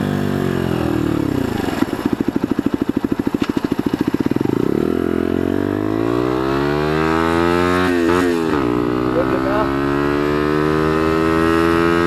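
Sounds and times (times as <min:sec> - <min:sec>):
motorcycle engine chugging and revving: 0:00.0 - 0:12.0.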